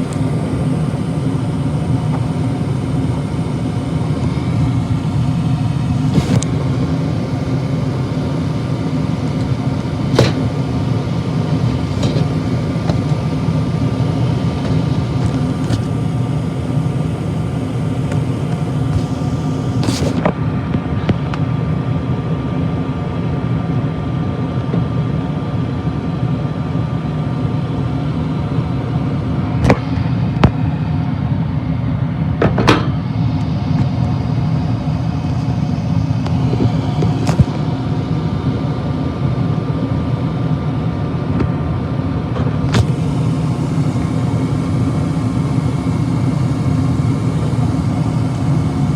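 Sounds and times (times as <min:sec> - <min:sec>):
furnace motor hum with whine: 0:00.0 - 0:48.9.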